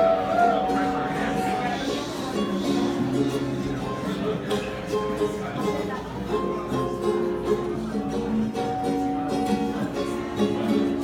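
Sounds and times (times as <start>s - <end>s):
ukulele strumming chords: 0.0s - 11.0s.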